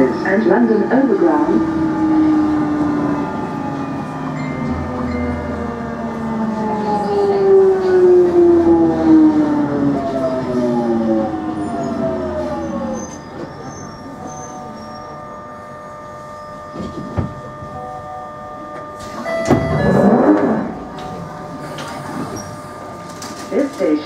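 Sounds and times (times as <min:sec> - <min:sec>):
train motors whining down: 0:00.0 - 0:23.2
train equipment hum: 0:00.0 - 0:24.0.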